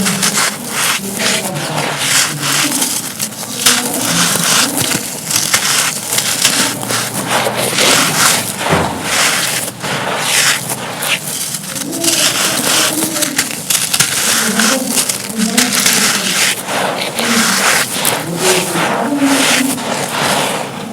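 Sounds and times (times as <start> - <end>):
dry cones crunching: 0.0 - 20.9.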